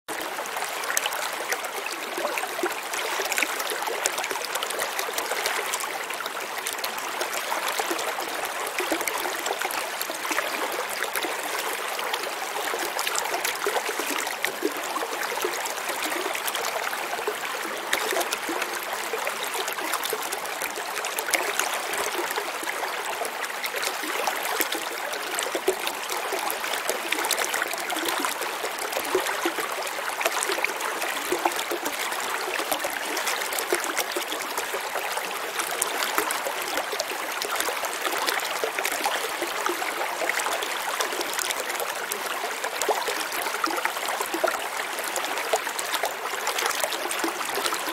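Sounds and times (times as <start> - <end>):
stream babbling over rocks: 0.1 - 47.9.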